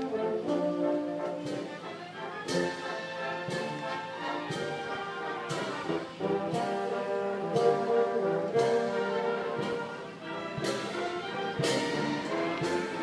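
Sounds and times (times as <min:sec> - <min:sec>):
brass waltz music: 0:00.0 - 0:13.0.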